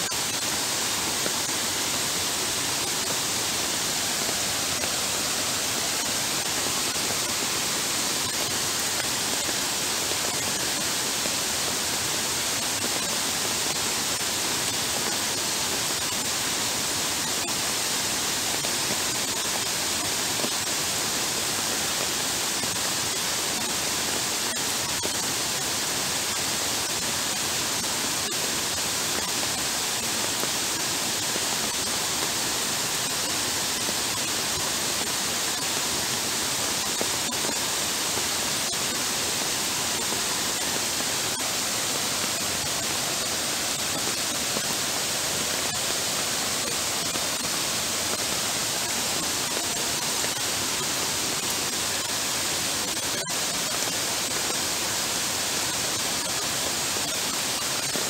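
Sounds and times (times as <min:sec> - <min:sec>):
heavy rain downpour: 0:00.0 - 0:58.0.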